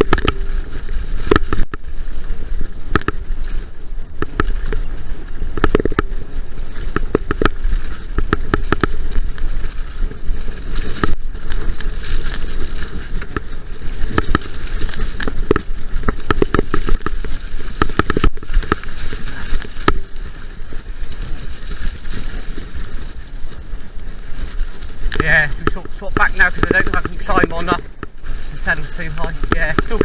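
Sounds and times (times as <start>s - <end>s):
bike rattling over bumps: 0.0s - 30.0s
bike tyres rumbling on dirt: 0.0s - 30.0s
wind on microphone: 0.0s - 30.0s.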